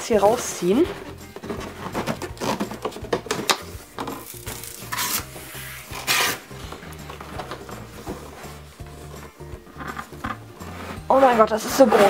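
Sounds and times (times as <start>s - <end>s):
cardboard scraping and rubbing: 0.1s - 12.0s.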